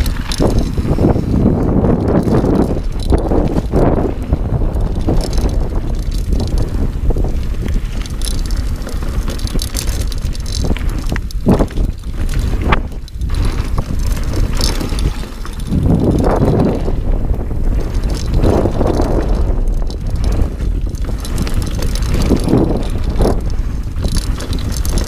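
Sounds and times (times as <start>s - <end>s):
bike knocks and rattles: 0.0s - 25.0s
tyre rumble on dirt: 0.0s - 25.0s
wind on microphone: 0.0s - 25.0s.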